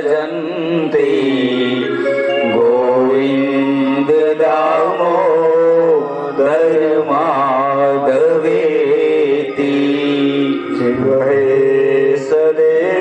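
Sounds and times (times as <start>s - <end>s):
person singing a chant: 0.0s - 13.0s.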